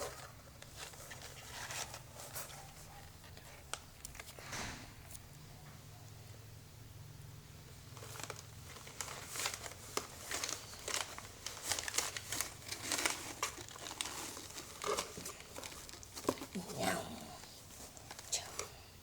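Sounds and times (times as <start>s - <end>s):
cat crinkling in a box: 0.0s - 4.5s, 7.8s - 18.8s.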